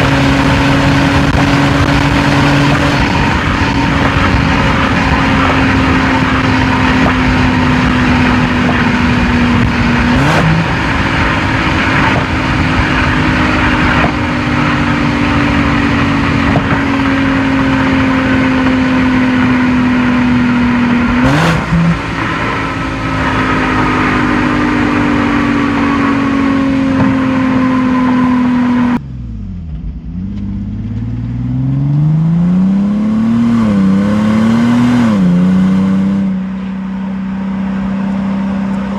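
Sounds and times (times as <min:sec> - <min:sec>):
car engine and exhaust: 0:00.0 - 0:38.9.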